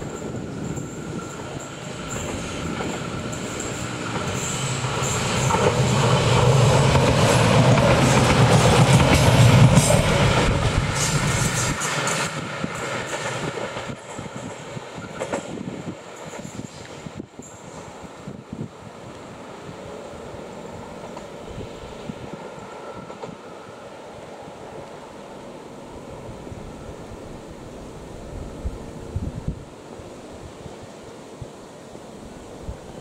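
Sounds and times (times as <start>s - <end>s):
train wheels rumbling on rails: 0.0s - 30.5s
train engine hum: 0.0s - 33.0s.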